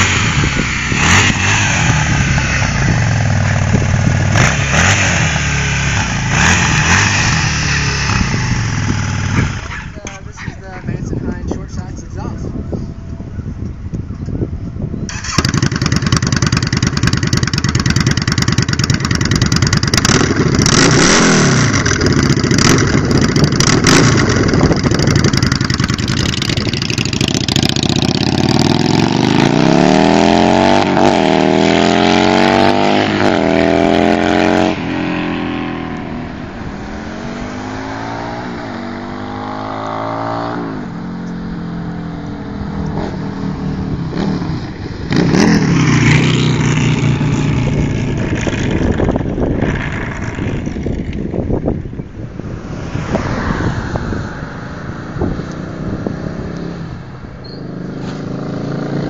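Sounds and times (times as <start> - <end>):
motorcycle engine revving: 0.0 - 10.2, 15.1 - 51.8, 52.4 - 59.0
motorcycle shifting through gears: 0.0 - 10.4, 15.0 - 59.0.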